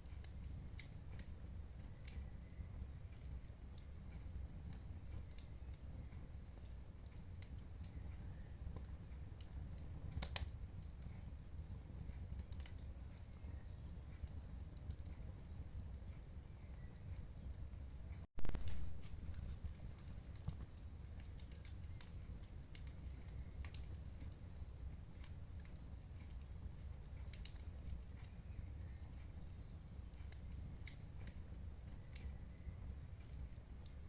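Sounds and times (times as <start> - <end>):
faint fire crackles: 0.0 - 34.0
fire burning with low rumble: 0.0 - 34.0.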